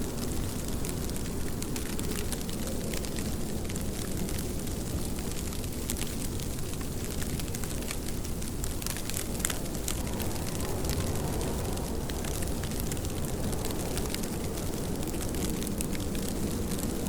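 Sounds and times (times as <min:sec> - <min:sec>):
rain rumbling: 0:00.0 - 0:17.0
raindrops ticking: 0:00.0 - 0:17.0.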